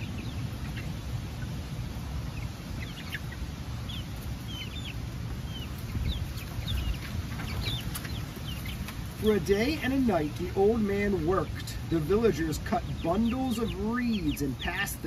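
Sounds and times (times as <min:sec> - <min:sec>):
hens chirping and clucking: 0:00.0 - 0:15.0
steady low rumble: 0:00.0 - 0:15.0.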